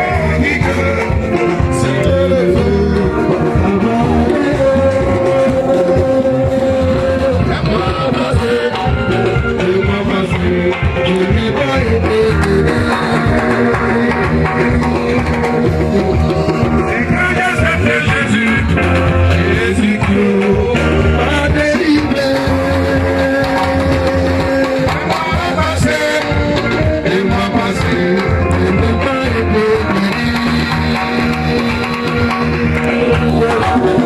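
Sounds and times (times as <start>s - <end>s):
person singing: 0.0s - 34.0s
steady bass line: 0.0s - 34.0s.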